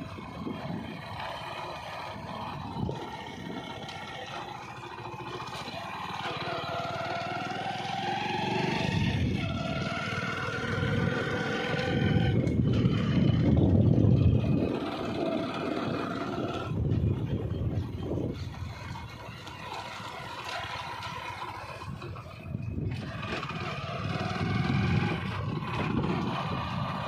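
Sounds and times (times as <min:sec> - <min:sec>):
wind buffeting microphone: 0:00.0 - 0:04.2, 0:08.3 - 0:20.2, 0:20.8 - 0:27.0
vehicle engine running: 0:00.0 - 0:27.0.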